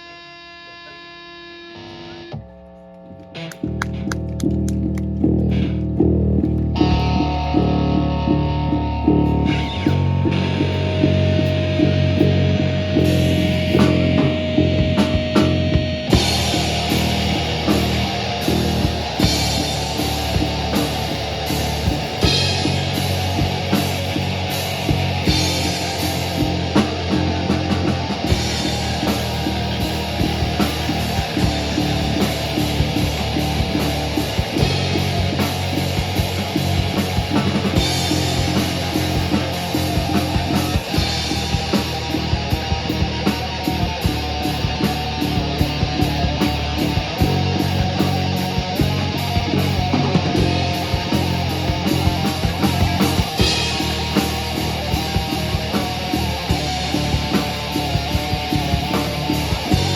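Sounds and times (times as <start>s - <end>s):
distorted electric guitar: 0.0s - 59.9s
drum kit pounding a beat: 3.4s - 59.9s.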